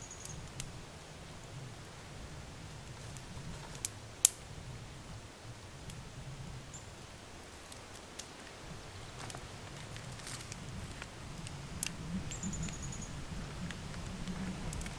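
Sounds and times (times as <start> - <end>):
low steady background noise: 0.0 - 14.9.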